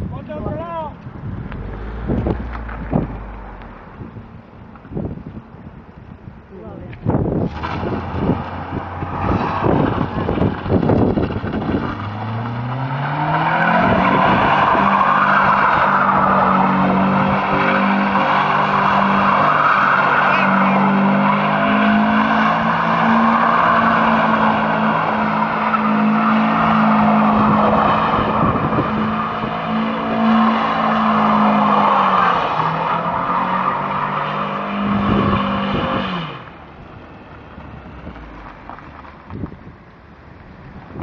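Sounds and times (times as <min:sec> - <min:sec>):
car engine revving: 0:01.0 - 0:04.8, 0:07.3 - 0:39.2.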